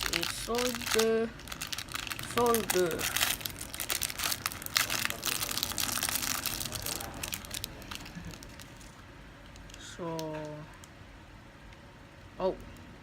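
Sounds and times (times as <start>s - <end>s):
packaging crinkling: 0.0s - 10.9s.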